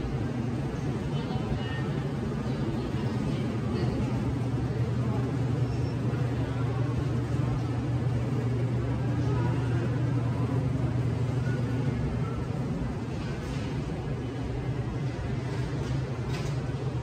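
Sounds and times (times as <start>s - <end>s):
faint store background noise: 0.0s - 17.0s
low machine hum: 0.0s - 17.0s.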